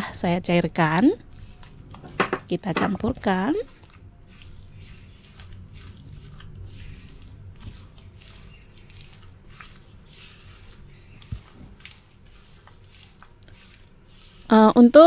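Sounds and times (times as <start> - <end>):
hands squishing wet batter: 0.5 - 15.0.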